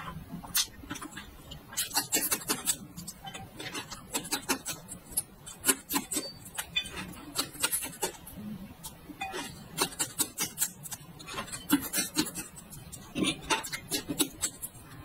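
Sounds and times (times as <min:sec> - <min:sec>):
crunching chili peppers: 0:00.4 - 0:15.0.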